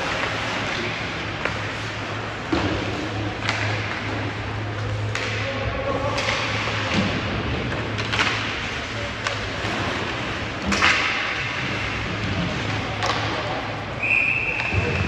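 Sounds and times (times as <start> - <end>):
faint crowd murmur: 0.0 - 15.0
hockey sticks and puck clacking: 0.0 - 15.0.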